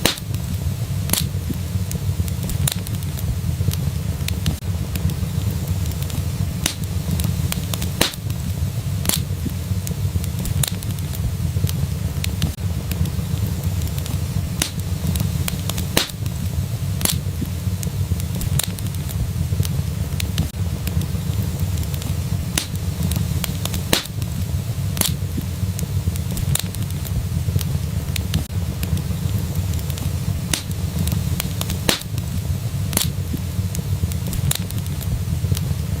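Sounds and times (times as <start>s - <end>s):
fire crackles and pops: 0.0s - 36.0s
fire flames rumbling: 0.0s - 36.0s.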